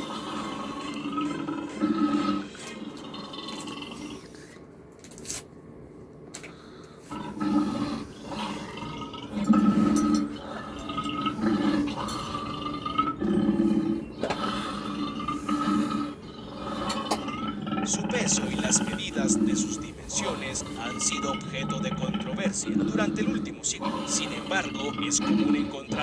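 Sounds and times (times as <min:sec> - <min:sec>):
lion roaring: 0:00.0 - 0:04.6, 0:07.1 - 0:26.0.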